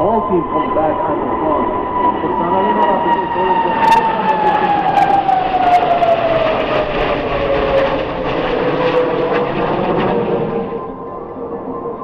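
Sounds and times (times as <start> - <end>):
jet roar with descending whine: 0.0 - 12.0.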